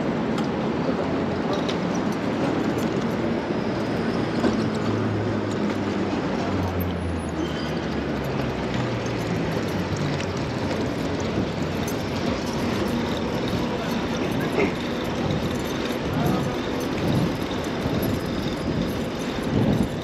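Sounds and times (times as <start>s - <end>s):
vehicle engine hum: 0.0s - 20.0s
wind and road noise: 0.0s - 20.0s.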